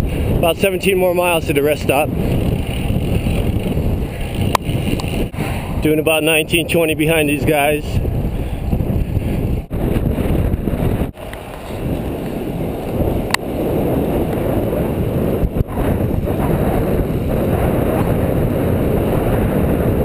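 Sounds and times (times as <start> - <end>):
bicycle tyre road noise: 0.0 - 20.0
wind rushing over microphone: 0.0 - 20.0.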